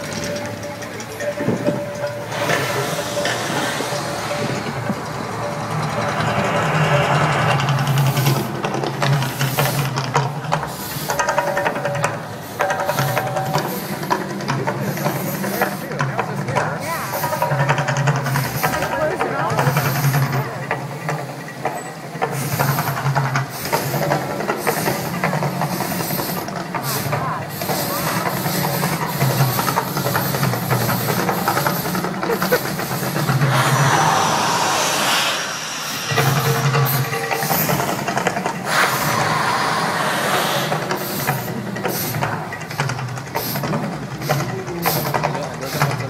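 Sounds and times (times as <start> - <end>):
gas flame jets hissing: 0.0 - 16.4, 17.0 - 46.0.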